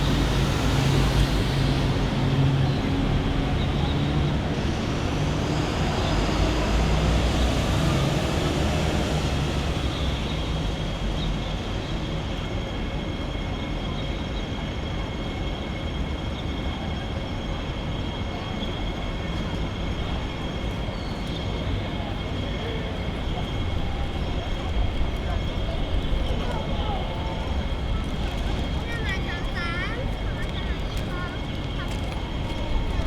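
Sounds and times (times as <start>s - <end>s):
low traffic rumble: 0.0s - 33.0s.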